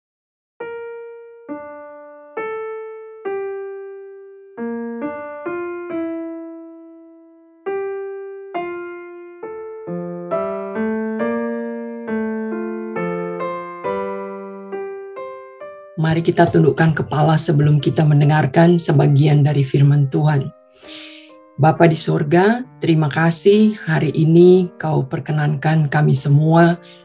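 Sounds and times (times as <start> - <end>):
slow piano notes: 0.6 - 27.0.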